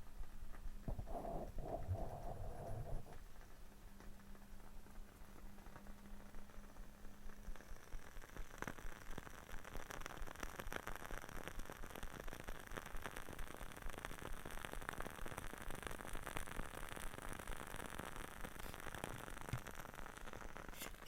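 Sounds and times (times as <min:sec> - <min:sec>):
light hiss: 0:00.0 - 0:21.0.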